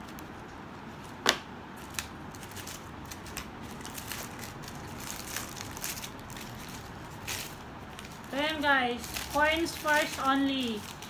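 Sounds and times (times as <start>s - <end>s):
tissue paper crinkling: 1.8s - 11.0s.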